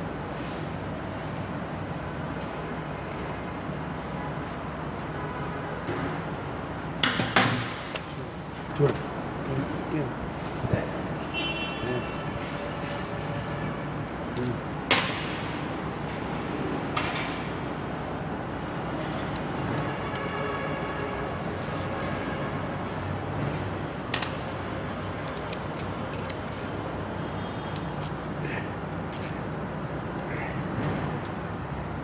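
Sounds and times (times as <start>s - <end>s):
workshop background hum: 0.0s - 32.0s.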